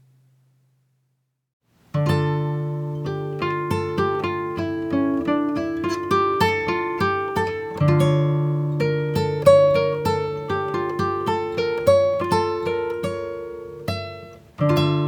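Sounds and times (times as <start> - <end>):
acoustic guitar picking notes: 1.9 - 15.0.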